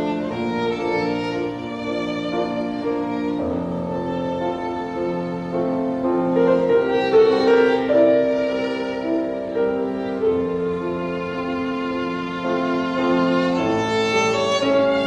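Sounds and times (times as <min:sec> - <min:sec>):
slow violin melody: 0:00.0 - 0:15.0.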